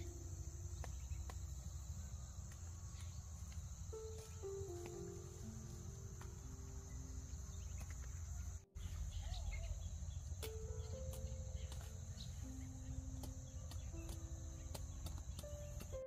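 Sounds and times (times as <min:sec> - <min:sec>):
insects chirring: 0:00.0 - 0:16.0
soft music of held notes: 0:00.0 - 0:16.0.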